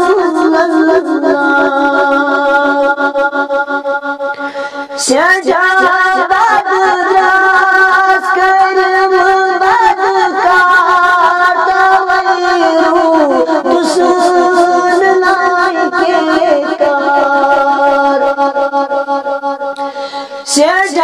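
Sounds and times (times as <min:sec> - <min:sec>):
man singing in high voice: 0:00.0 - 0:21.0.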